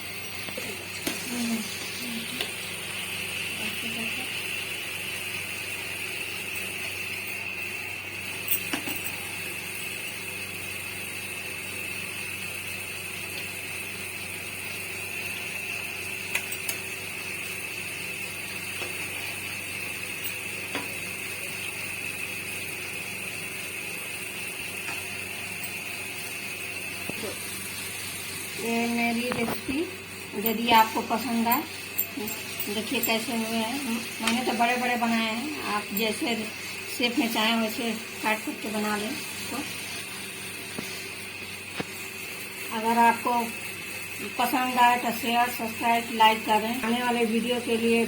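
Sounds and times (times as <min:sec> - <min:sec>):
food sizzling in hot oil: 0:00.0 - 0:48.0.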